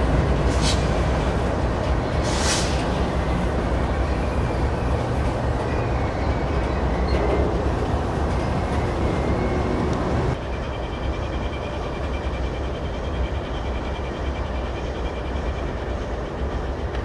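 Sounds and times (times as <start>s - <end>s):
train cars rolling on rails: 0.0s - 17.0s.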